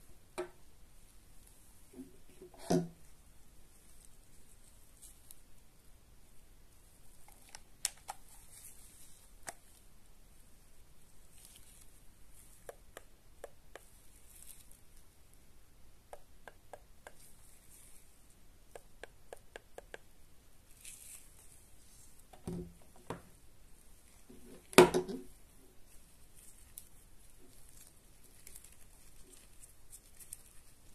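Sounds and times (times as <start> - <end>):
faint glove rustling: 1.0 - 12.9, 13.8 - 15.2, 17.0 - 18.4, 20.6 - 30.9.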